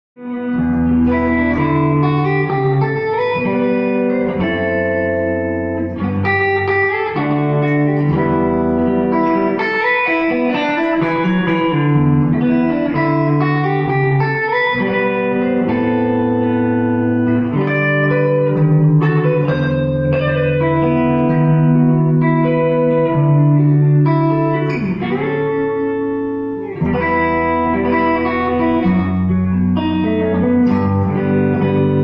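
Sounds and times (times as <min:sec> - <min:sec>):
fingerstyle electric guitar: 0:00.2 - 0:32.0.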